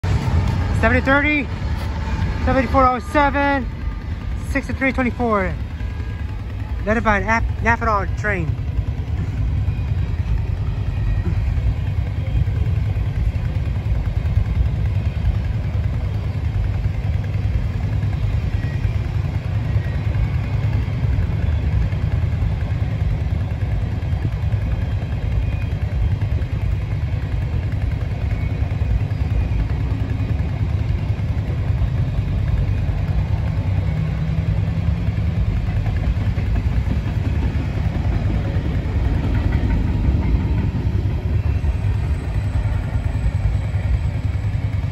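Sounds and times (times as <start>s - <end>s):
freight train rumbling past: 0.0s - 44.9s
motorcycles idling: 0.0s - 44.9s.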